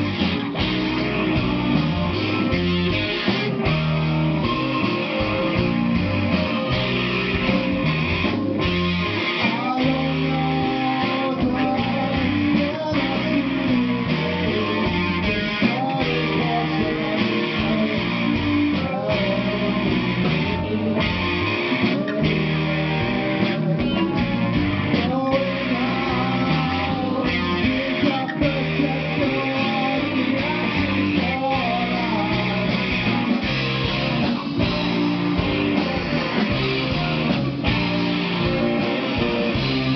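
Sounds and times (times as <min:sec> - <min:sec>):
bass line: 0:00.0 - 0:39.9
rock band playing live: 0:00.0 - 0:39.9
strummed electric guitar: 0:00.0 - 0:39.9.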